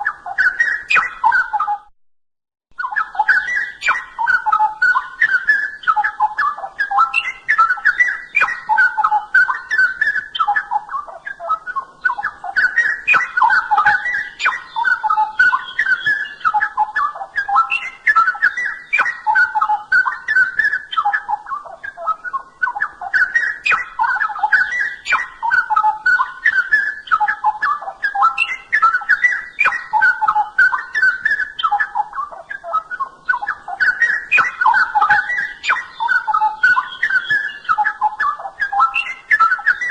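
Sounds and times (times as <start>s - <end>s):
bulbul singing melodious phrases: 0.0s - 1.9s, 2.8s - 39.9s.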